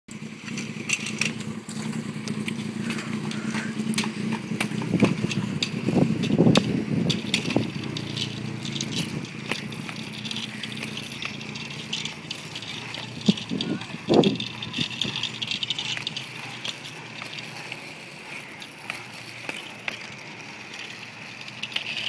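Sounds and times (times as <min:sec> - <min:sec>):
wheel clicks and knocks: 0:00.1 - 0:22.0
wheels rolling on asphalt: 0:00.1 - 0:22.0.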